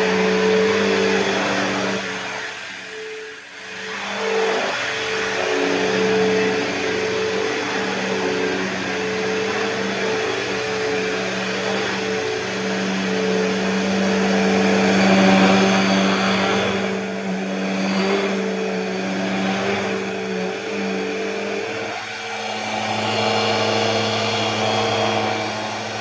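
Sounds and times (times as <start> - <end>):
vacuum brush roll: 0.0 - 26.0
vacuum cleaner motor hum: 0.0 - 26.0.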